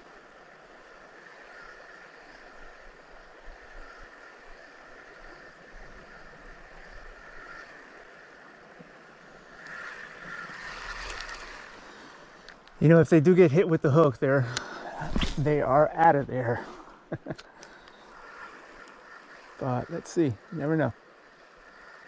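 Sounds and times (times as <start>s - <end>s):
creek water running: 0.0s - 22.0s
faint ticks: 1.2s - 13.2s, 14.4s - 15.4s, 16.6s - 22.0s.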